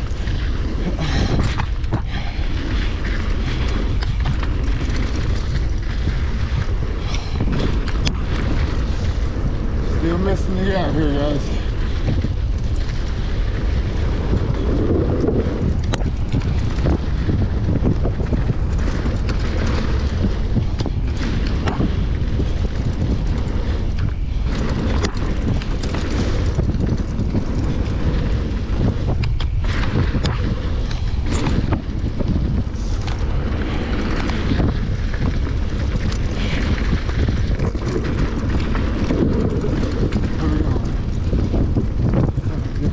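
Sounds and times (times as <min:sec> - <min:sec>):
bike rattling over rough ground: 0:00.0 - 0:42.9
wind buffeting microphone: 0:00.0 - 0:42.9.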